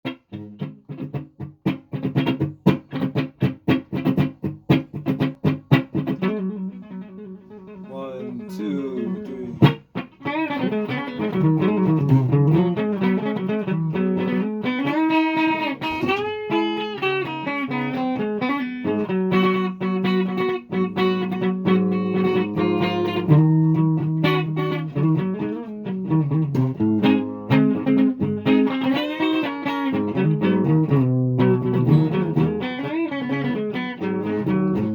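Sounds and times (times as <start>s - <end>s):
guitar playing: 0.0s - 34.9s.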